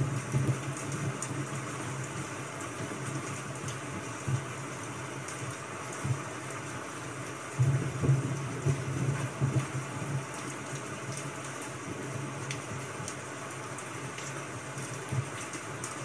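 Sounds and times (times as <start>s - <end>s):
faint raindrop ticks: 0.0s - 16.0s
steady rain hiss: 0.0s - 16.0s.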